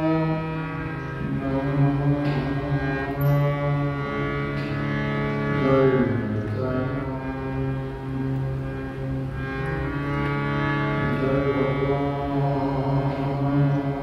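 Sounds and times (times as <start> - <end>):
harmonium melody over a drone: 0.0 - 14.0.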